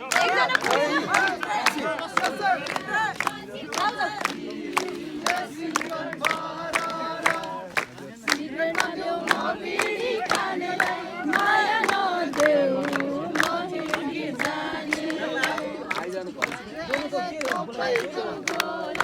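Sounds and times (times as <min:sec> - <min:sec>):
group singing a folk song: 0:00.0 - 0:19.0.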